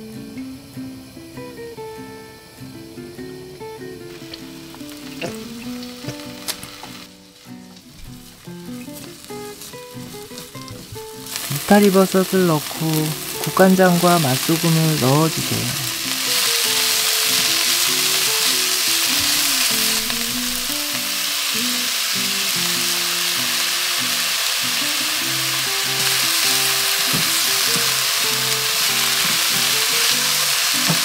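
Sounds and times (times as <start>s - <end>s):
mushrooms sizzling in hot oil: 0.0s - 31.0s
soft background music: 0.0s - 31.0s.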